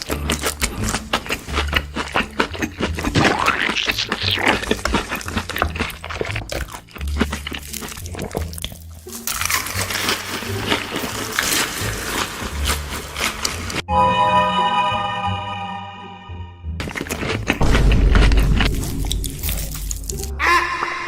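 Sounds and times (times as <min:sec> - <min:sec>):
crunching and chewing crisp food: 0:00.0 - 0:13.8, 0:16.8 - 0:20.7.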